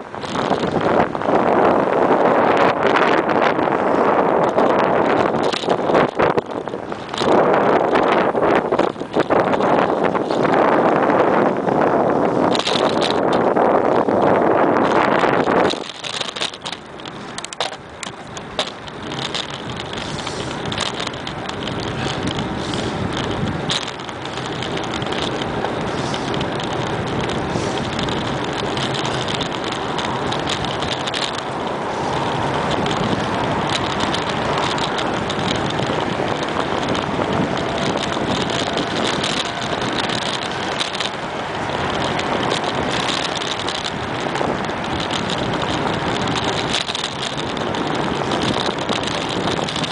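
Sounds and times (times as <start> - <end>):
bicycle tyres on wet pavement: 0.0 - 49.9
wind over microphone: 0.0 - 49.9
light clicks and rattles: 0.1 - 11.0, 12.4 - 49.9.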